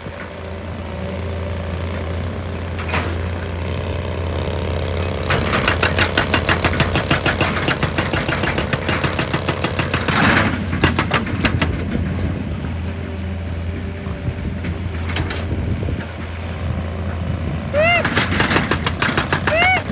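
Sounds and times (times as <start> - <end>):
hydraulic breaker hammering rock: 0.0 - 12.9, 14.0 - 19.9
excavator engine running: 0.0 - 19.9.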